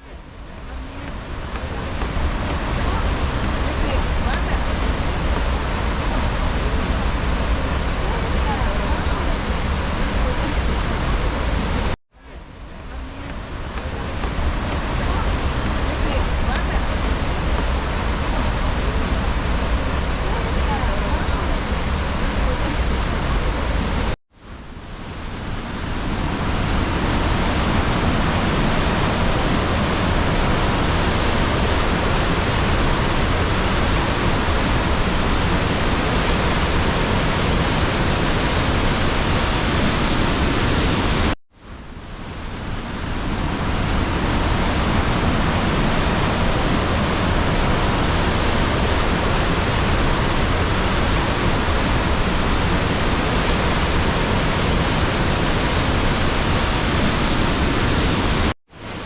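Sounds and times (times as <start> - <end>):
waterfall rushing: 0.0 - 12.0, 12.8 - 24.2, 25.0 - 41.4, 42.3 - 59.0.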